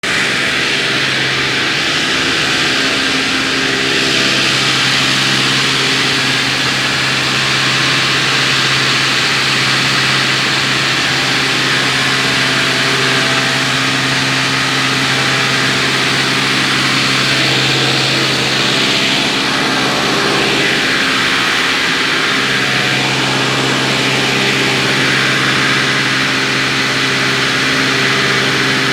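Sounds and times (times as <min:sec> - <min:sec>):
truck diesel engine droning: 0:00.0 - 0:28.9.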